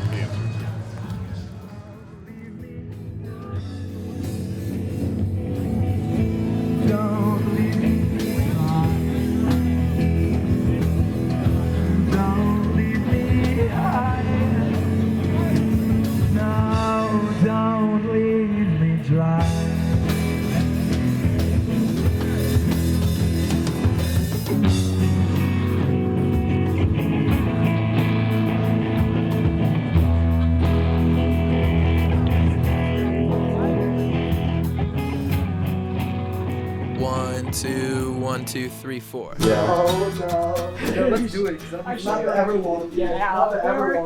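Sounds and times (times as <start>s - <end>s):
rock song with singing: 0.0s - 42.0s.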